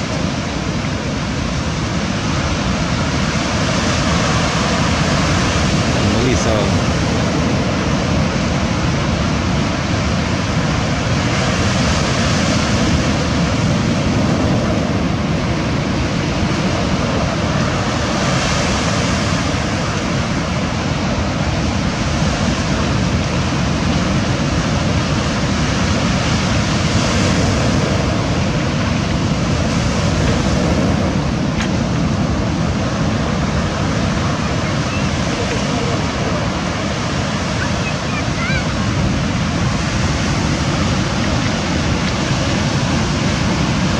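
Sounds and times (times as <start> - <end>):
surf breaking on stony shore: 0.0 - 43.9.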